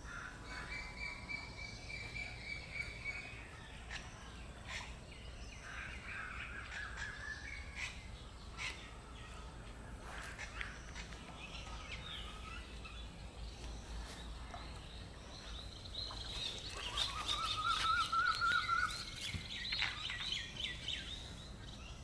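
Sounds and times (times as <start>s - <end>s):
birds calling and chirping: 0.0s - 22.0s.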